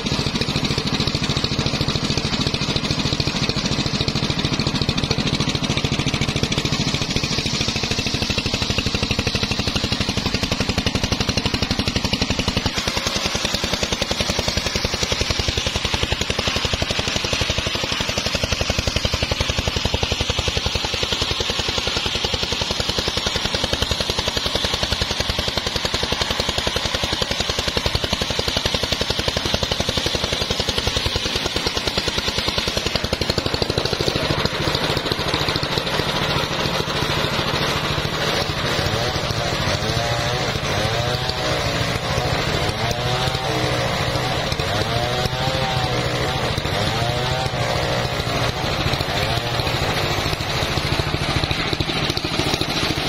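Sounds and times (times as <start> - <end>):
engine beat: 0.0 - 53.0
saw blade hissing through wood: 3.3 - 53.0.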